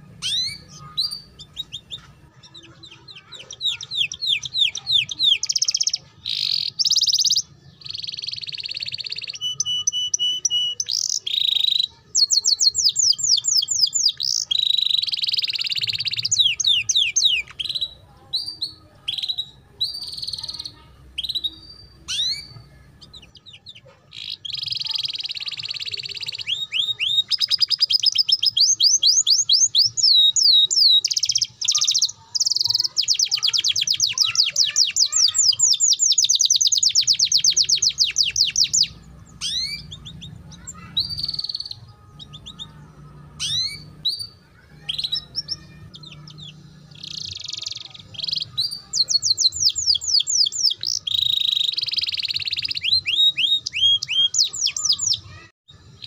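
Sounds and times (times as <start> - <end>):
canary chirps: 0.0 - 56.0
canary singing trills: 0.0 - 56.0.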